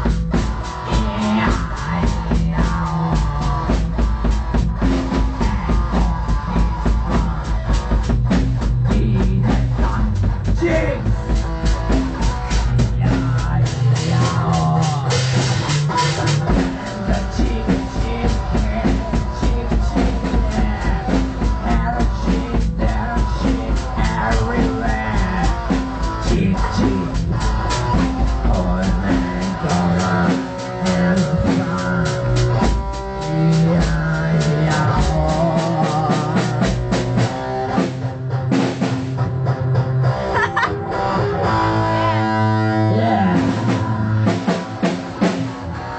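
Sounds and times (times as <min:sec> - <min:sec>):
drum kit: 0:00.0 - 0:45.9
metal guitar: 0:00.0 - 0:45.9.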